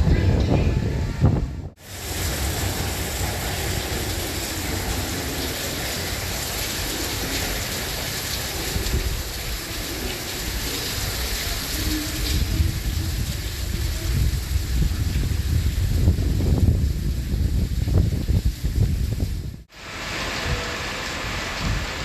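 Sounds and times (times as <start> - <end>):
wind buffeting microphone: 0.0 - 19.7, 20.4 - 22.0
heavy rain: 0.0 - 22.0.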